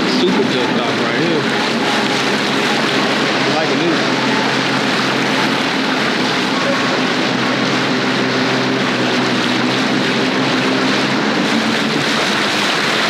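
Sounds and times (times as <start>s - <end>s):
personal watercraft engine drone: 0.0s - 13.0s
rushing water: 0.0s - 13.0s.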